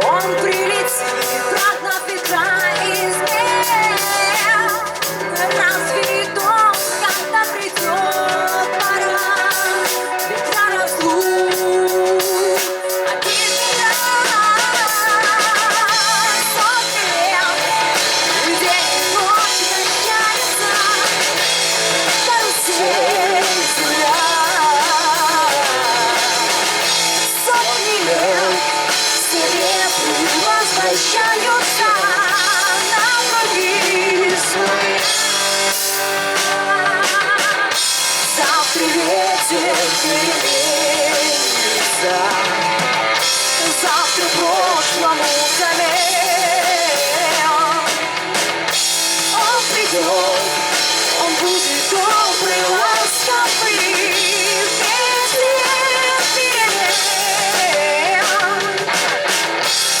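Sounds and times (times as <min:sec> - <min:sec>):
drum kit: 0:00.0 - 1:00.0
guitars: 0:00.0 - 1:00.0.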